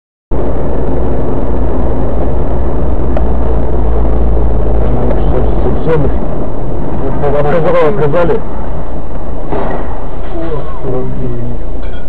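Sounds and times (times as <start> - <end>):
car engine and road noise: 0.3 - 12.0.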